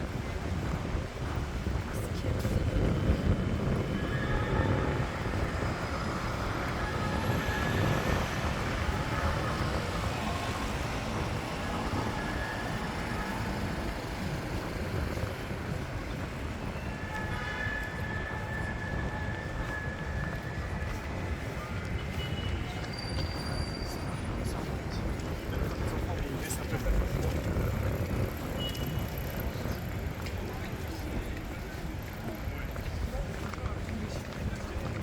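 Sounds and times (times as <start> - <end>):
low rumble of traffic: 0.0 - 35.0.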